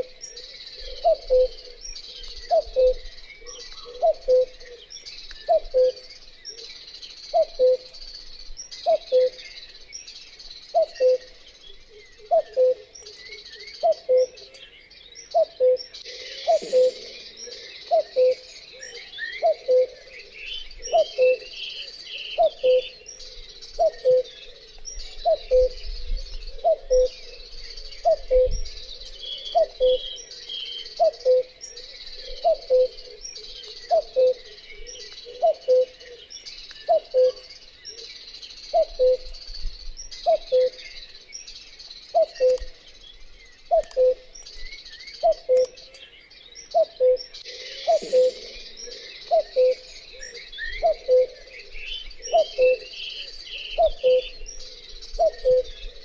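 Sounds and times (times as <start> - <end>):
cuckoo calling: 0.0 - 6.7, 7.3 - 8.1, 8.7 - 9.6, 10.7 - 14.6, 15.3 - 39.5, 40.1 - 41.2, 42.1 - 42.9, 43.6 - 56.0
small birds chirping: 0.0 - 56.0.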